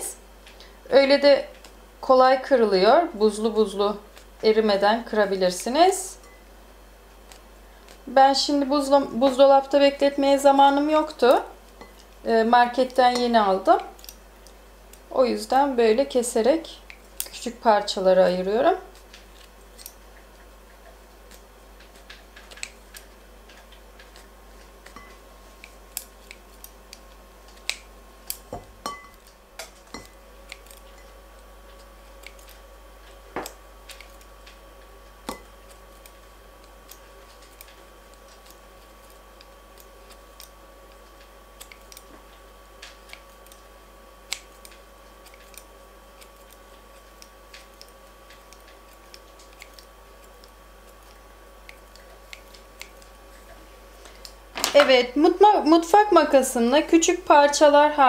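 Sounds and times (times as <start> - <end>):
scissors snipping pastry: 7.1 - 54.4.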